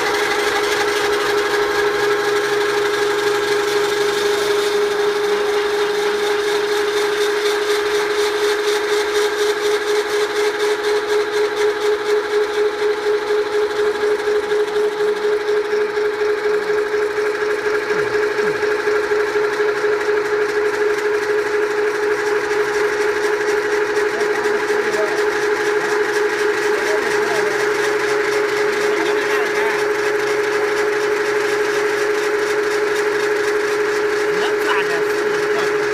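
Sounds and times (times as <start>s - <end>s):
electric auger drill whining: 0.0s - 35.9s.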